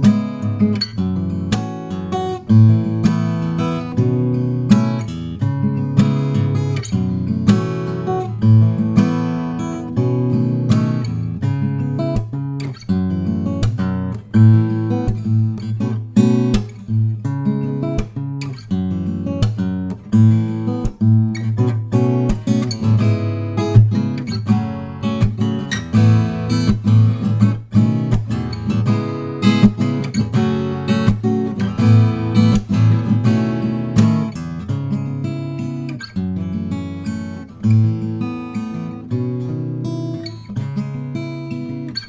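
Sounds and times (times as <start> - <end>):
acoustic guitar strumming and picking: 0.0 - 42.0.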